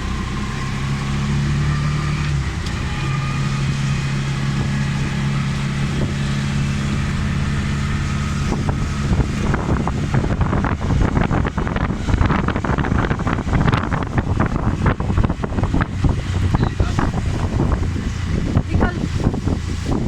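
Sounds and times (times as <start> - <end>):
vehicle engine droning: 0.0 - 20.0
wind buffeting microphone: 0.0 - 20.0.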